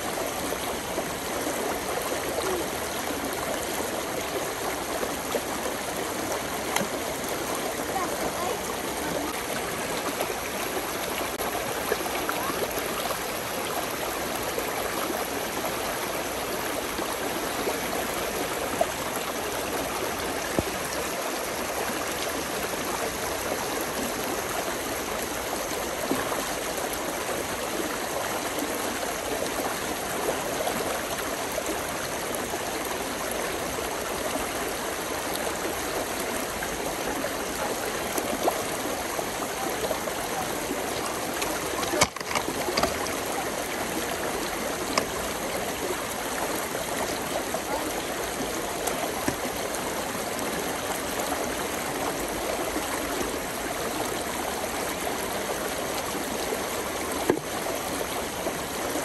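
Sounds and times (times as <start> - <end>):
stream babbling: 0.0 - 59.0.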